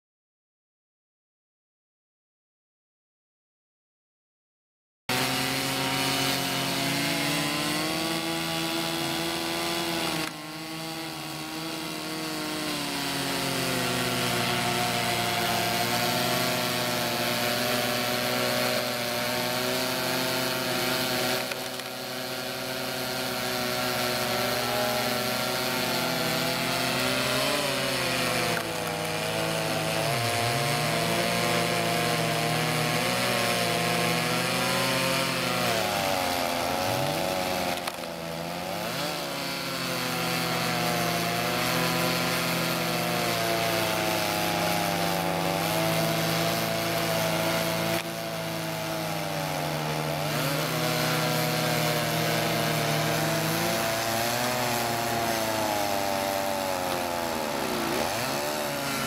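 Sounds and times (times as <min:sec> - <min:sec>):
chainsaw cutting logs: 0:05.1 - 0:59.0.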